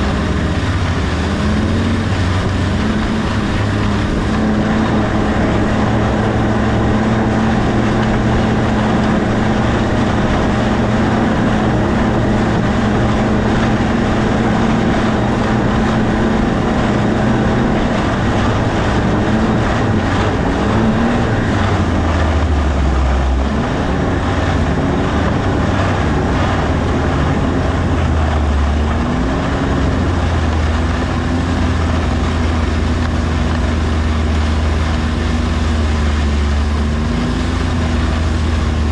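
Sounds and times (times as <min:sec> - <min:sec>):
engine revving: 0:00.0 - 0:38.9.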